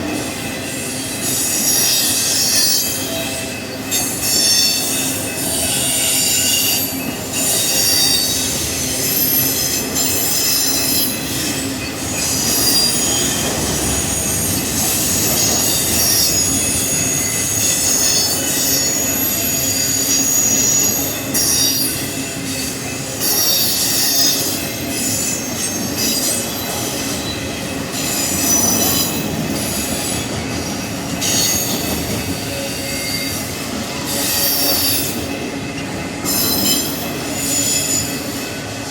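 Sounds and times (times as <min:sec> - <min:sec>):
train rumble: 0:00.0 - 0:38.9
train wheels squealing on rail: 0:00.0 - 0:38.9.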